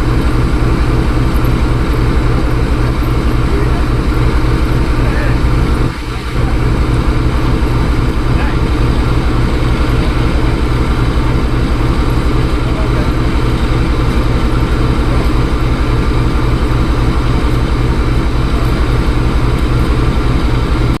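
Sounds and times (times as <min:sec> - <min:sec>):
diesel locomotive engine idling: 0:00.0 - 0:21.0.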